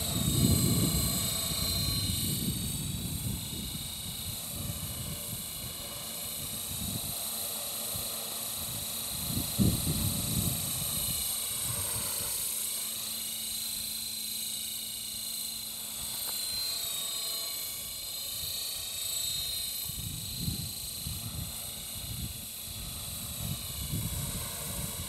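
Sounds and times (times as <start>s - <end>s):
model helicopter whine: 0.0s - 25.0s.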